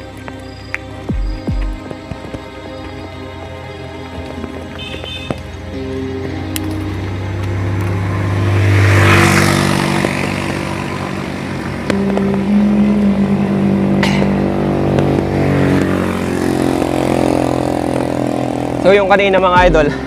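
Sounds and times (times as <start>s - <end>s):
steady engine-like tones: 0.0s - 20.0s
vehicle passing: 0.0s - 20.0s.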